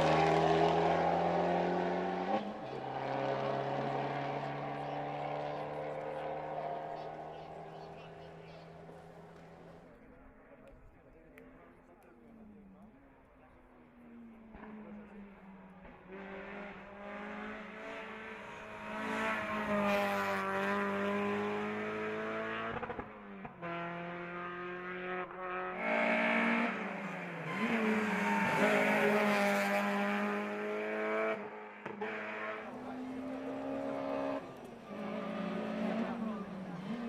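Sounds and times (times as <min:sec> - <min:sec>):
race car engine: 0:00.0 - 0:37.0.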